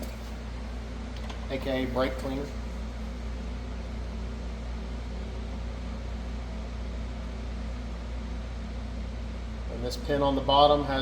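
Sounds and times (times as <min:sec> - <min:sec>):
steady mechanical hum with hiss: 0:00.0 - 0:11.0.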